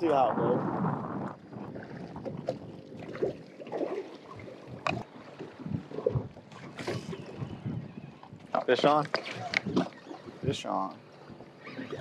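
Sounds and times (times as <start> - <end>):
water lapping against hull: 0.0 - 12.0
wind on microphone: 0.0 - 12.0.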